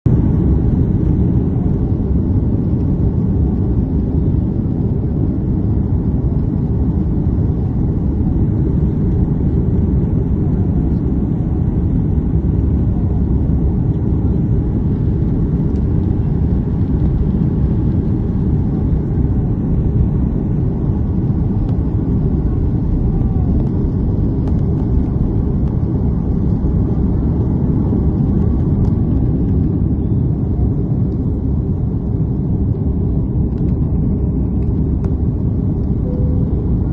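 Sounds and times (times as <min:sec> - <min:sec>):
jet airliner cabin rumble: 0:00.0 - 0:36.9.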